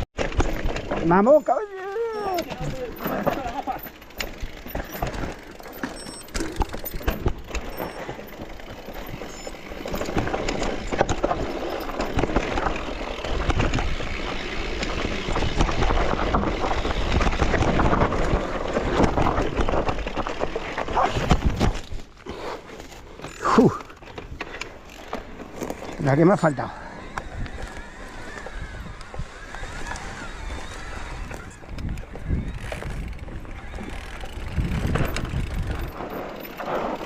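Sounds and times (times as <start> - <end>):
bike rattling and knocking: 0.0 - 37.0
bike tyres on dirt: 0.0 - 37.0.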